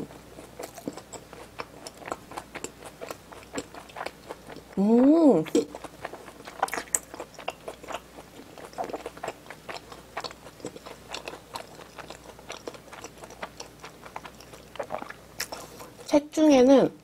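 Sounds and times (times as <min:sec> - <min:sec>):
chewing fried food: 0:00.0 - 0:16.3.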